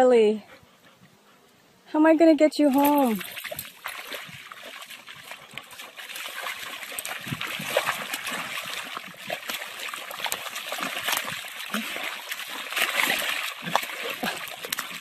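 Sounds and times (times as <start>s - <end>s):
mud splashing and squelching: 2.7s - 15.0s.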